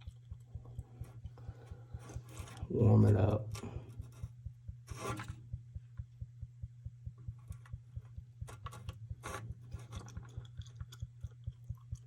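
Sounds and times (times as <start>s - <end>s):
faint evenly spaced ticks: 0.0s - 12.0s
steady low hum: 0.0s - 12.0s.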